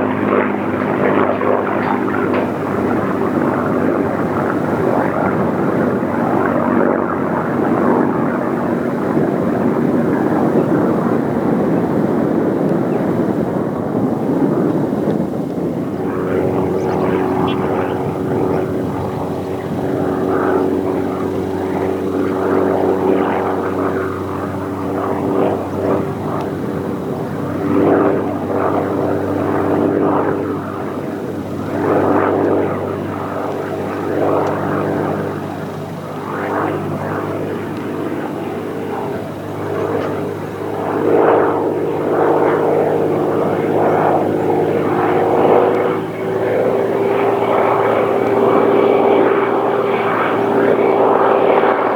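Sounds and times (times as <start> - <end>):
propeller aircraft engine running: 0.0 - 51.9.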